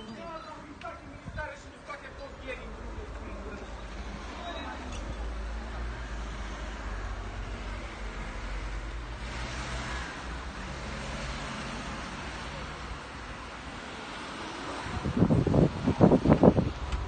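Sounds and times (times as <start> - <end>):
cars passing by: 0.0 - 17.0.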